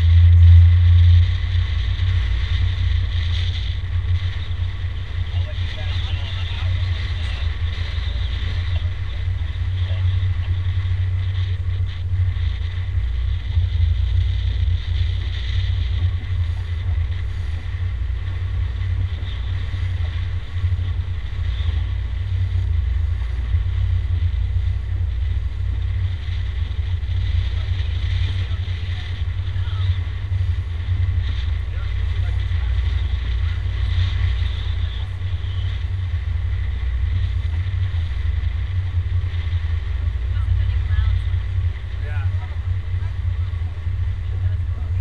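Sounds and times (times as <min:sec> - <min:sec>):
motorboat engine rumble: 0:00.0 - 0:45.0
wind buffeting microphone: 0:00.0 - 0:45.0.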